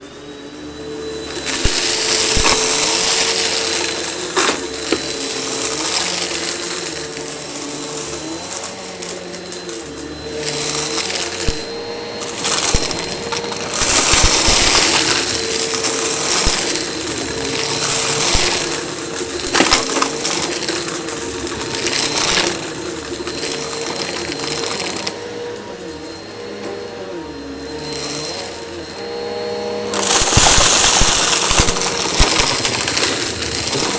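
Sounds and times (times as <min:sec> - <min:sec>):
grit rattling up vacuum intake: 0:00.0 - 0:33.9
vacuum cleaner motor whine: 0:00.0 - 0:33.9.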